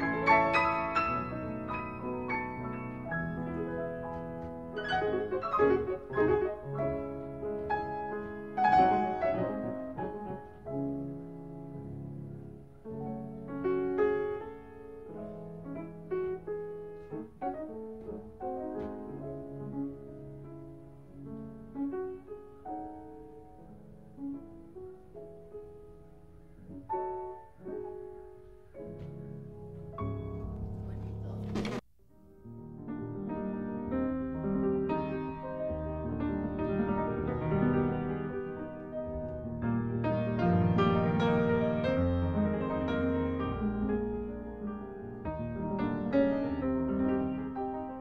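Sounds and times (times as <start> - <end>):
two pianos playing: 0.0 - 48.0.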